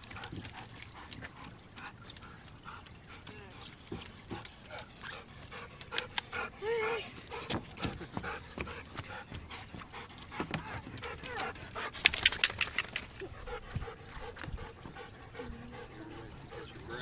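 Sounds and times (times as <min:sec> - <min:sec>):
dog panting rapidly: 0:00.0 - 0:17.0.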